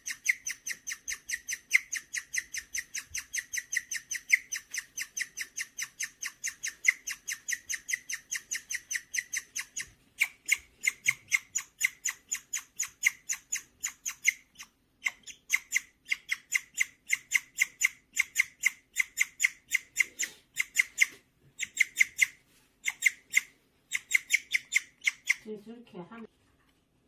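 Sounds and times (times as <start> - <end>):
guinea pig chirping: 0.0 - 25.6.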